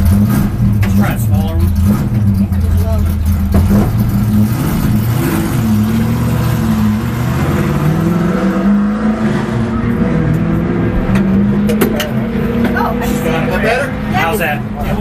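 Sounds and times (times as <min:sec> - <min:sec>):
stock car engines running: 0:00.0 - 0:15.0.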